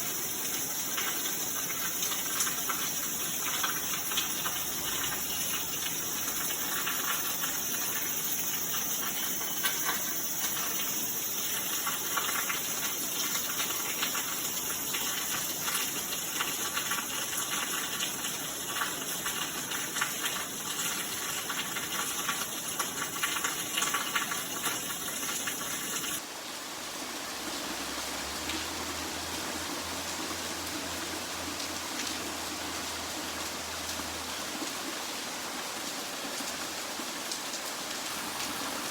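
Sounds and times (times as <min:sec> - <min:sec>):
gushing water: 0:00.0 - 0:38.9
heavy rain pouring: 0:00.0 - 0:38.9.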